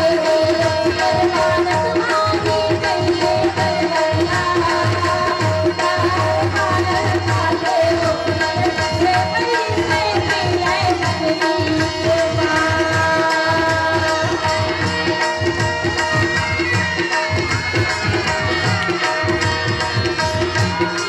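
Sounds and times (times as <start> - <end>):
hand drum steady rhythm: 0.0 - 21.0.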